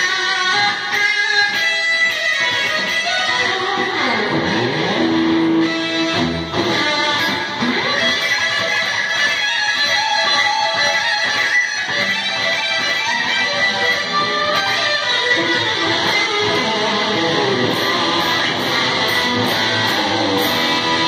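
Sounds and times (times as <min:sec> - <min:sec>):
electric guitar fast lead runs: 0:00.1 - 0:21.0.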